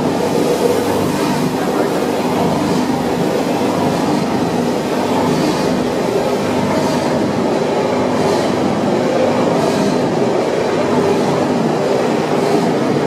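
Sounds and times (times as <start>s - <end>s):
machinery rumbling: 0.0s - 13.0s.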